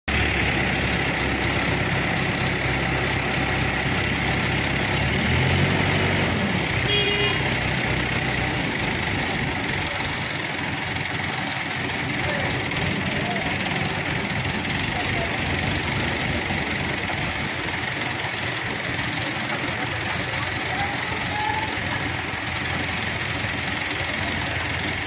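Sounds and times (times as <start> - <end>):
crane diesel engine drone: 0.1 - 25.0.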